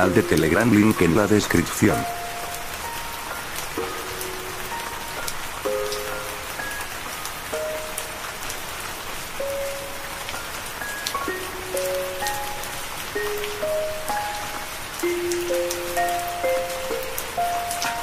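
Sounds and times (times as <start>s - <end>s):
slow soft melody: 0.0s - 18.0s
steady rain: 0.0s - 18.0s.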